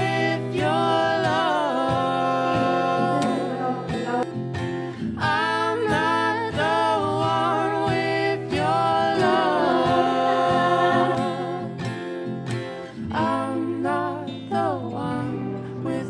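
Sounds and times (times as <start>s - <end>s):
person singing: 0.0s - 12.1s, 12.9s - 16.0s
plucked guitar: 0.0s - 16.0s.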